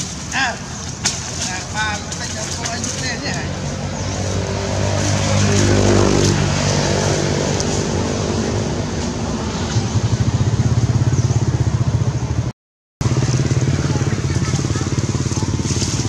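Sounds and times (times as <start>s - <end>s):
motorbike engine running: 2.0s - 16.0s.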